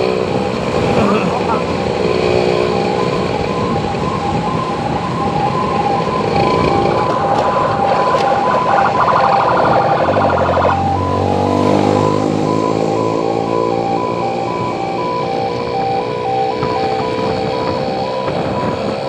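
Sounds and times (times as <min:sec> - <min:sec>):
two-tone electronic siren: 0:00.0 - 0:19.0.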